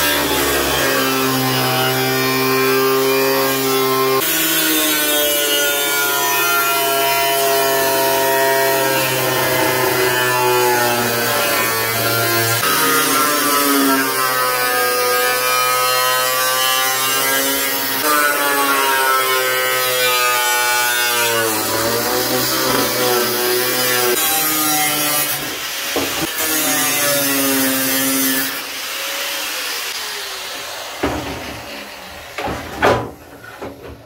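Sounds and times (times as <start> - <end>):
angle grinder cutting metal: 0.0 - 33.1.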